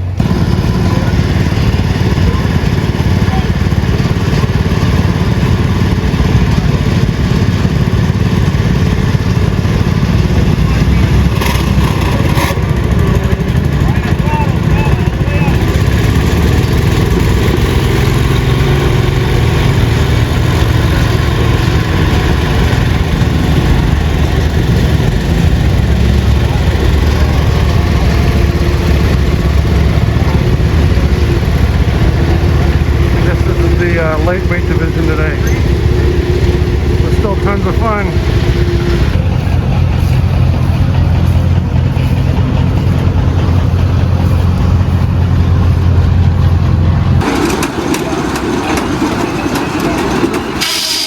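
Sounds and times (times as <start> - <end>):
loud engine rumbling: 0.0 - 51.0.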